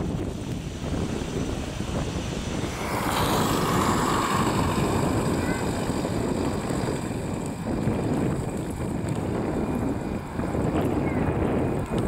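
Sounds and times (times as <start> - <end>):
jet engines taxiing: 0.0 - 12.0
wind on microphone: 0.0 - 12.0.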